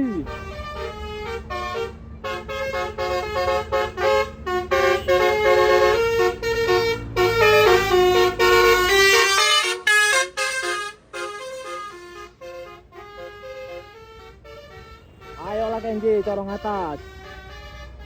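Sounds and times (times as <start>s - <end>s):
low engine rumble: 0.0s - 18.0s
multi-tone bus horn tune: 0.0s - 18.0s.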